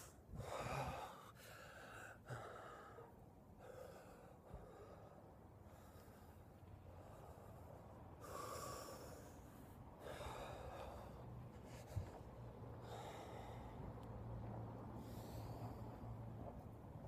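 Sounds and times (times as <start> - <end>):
man breathing forcefully: 0.0 - 14.0, 14.8 - 16.4.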